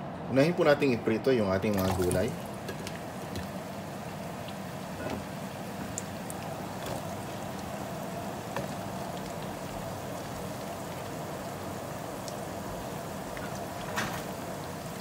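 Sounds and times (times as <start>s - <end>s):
oil popping and crackling: 1.6s - 15.0s
carrots sizzling in hot oil: 2.2s - 15.0s.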